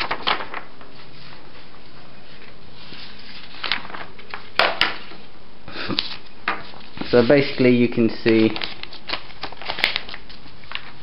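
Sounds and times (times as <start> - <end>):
paper rustling: 0.0 - 11.0
steady background hiss: 0.0 - 11.0.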